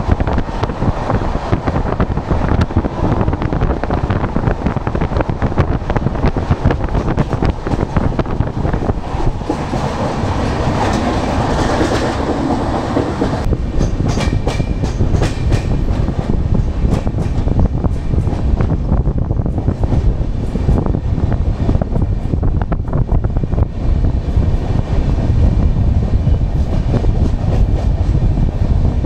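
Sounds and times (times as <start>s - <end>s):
train wheels rumbling: 0.0s - 29.0s
wheels clickety-clack over rails: 0.0s - 29.0s.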